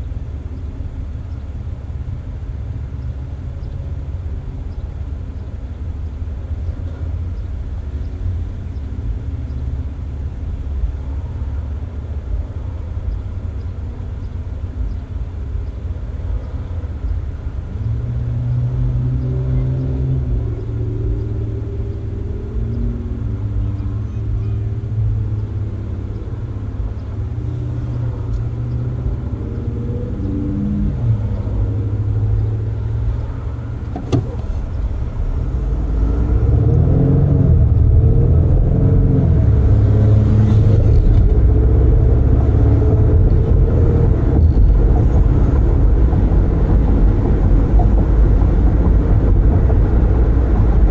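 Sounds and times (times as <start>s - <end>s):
engine drone: 0.0s - 50.9s
road and tyre rumble: 0.0s - 50.9s.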